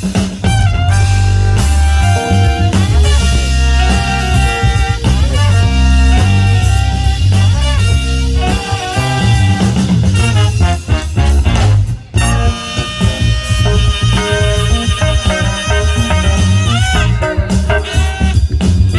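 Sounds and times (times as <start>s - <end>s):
band music with bass and guitar: 0.0s - 18.9s.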